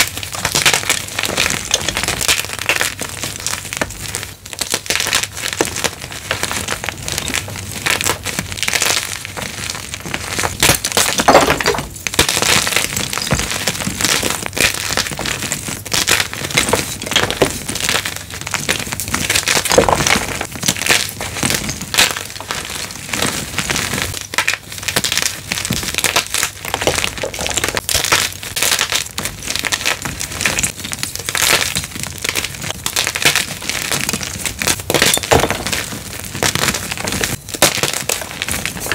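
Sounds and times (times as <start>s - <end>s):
chalk blocks being crushed: 0.0s - 38.9s.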